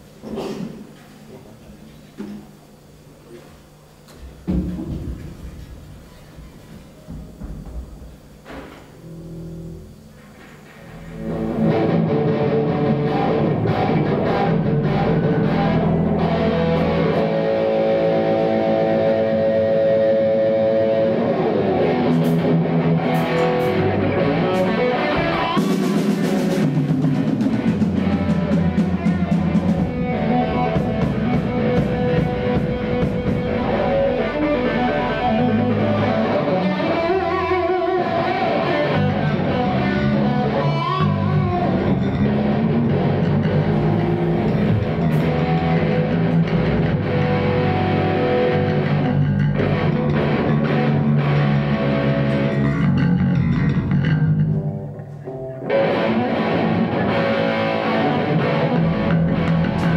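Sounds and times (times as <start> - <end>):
electric guitars: 3.7 - 59.9
drum kit: 4.2 - 59.9.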